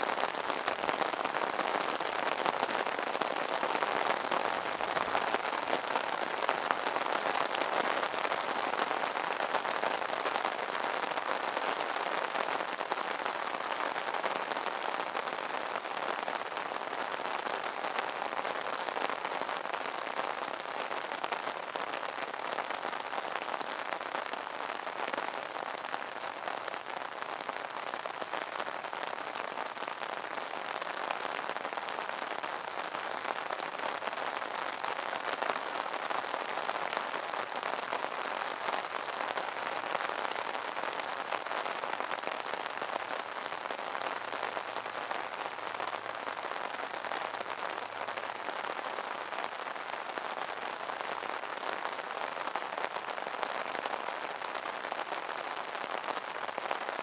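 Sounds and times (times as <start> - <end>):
rain pattering on umbrella: 0.0 - 57.0.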